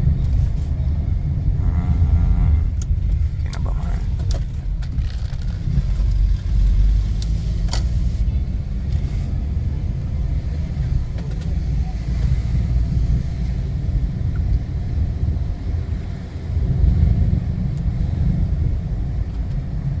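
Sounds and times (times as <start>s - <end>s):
car rumbling in traffic: 0.0s - 20.0s.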